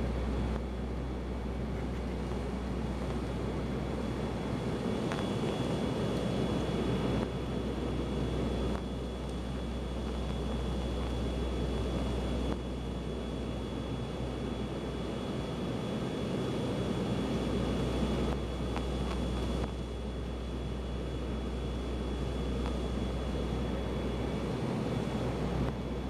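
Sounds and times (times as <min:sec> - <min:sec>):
airliner cabin drone: 0:00.0 - 0:26.0
high whine: 0:00.0 - 0:26.0.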